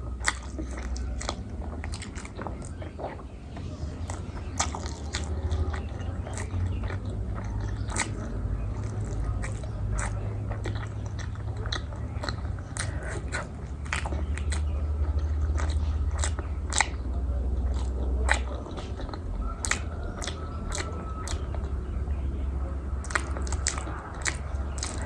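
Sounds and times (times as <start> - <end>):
wet mouth clicks and smacks: 0.0 - 21.8, 22.9 - 25.0
person chewing: 0.0 - 25.0
steady low hum: 0.0 - 25.0.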